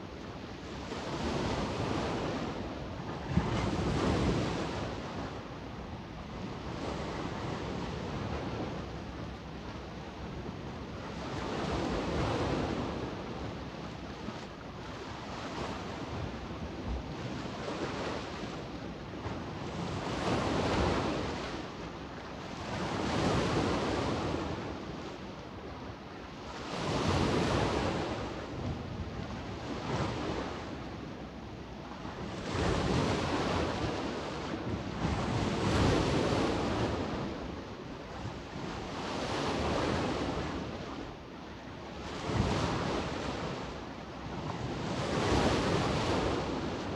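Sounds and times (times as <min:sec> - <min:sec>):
small waves washing ashore: 0:00.0 - 0:46.9
wind: 0:00.0 - 0:46.9.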